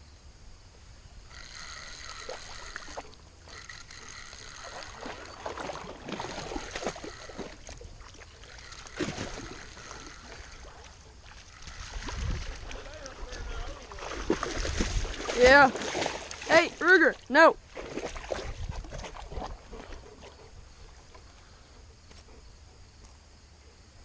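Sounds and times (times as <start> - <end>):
creek water splashing: 1.3 - 21.8.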